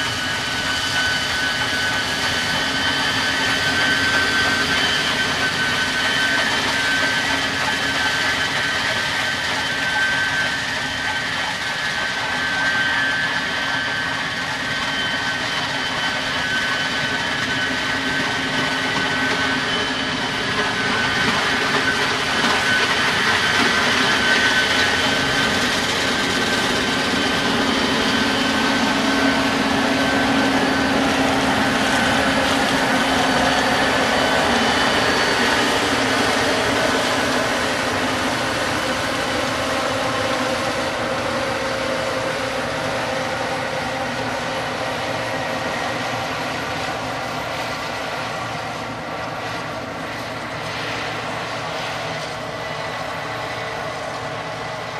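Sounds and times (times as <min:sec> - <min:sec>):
combine harvester drone with whine: 0:00.0 - 0:54.9.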